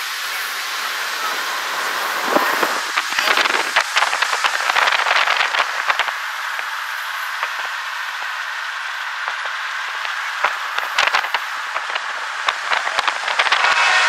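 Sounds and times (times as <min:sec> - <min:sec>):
wind and road noise in car: 0:00.0 - 0:14.0.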